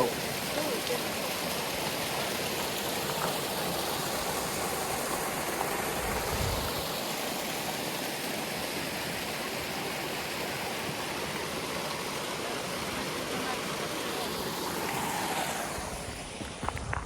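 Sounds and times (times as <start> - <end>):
waterfall rushing: 0.0 - 16.6.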